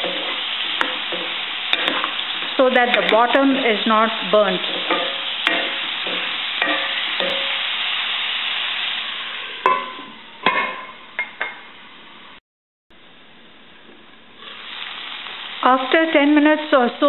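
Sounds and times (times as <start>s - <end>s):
vegetables sizzling in oil: 0.0s - 11.2s, 14.4s - 17.0s.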